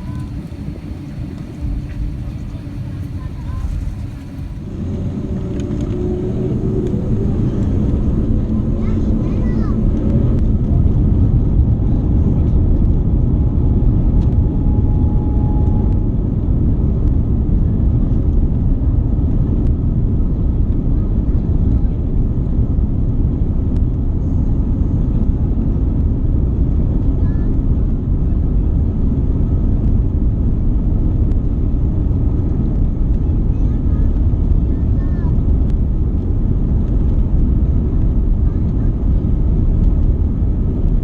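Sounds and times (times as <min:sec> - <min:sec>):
airliner cabin rumble: 0:00.0 - 0:41.0.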